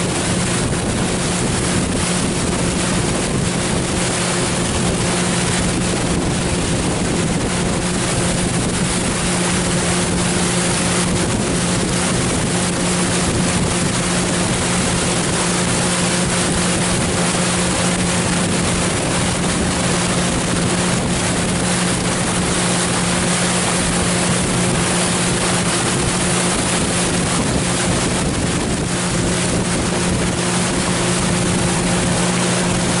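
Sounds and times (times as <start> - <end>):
boat motor running: 0.0 - 33.0
water rushing: 0.0 - 33.0
wind rushing: 0.0 - 33.0.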